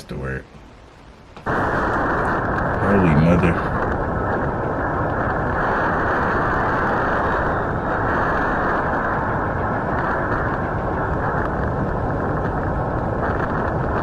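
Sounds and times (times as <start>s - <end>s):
muffled wind rushing: 0.0s - 14.0s.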